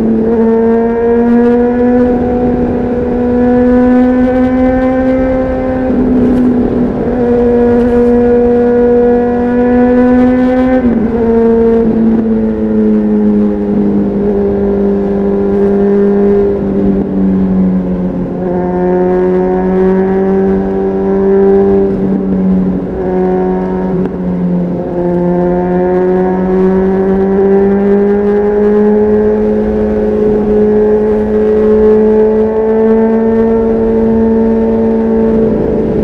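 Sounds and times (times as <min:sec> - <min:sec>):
motorcycle engine riding: 0:00.0 - 0:36.0.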